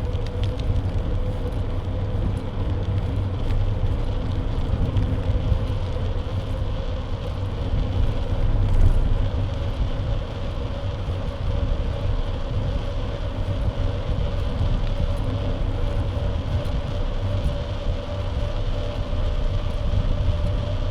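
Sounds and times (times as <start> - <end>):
road rumble: 0.0 - 20.9.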